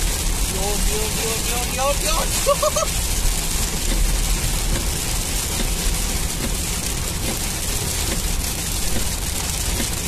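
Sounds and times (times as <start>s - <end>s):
heavy rain on car roof: 0.0s - 10.0s
tyres rumbling on wet road: 0.0s - 10.0s.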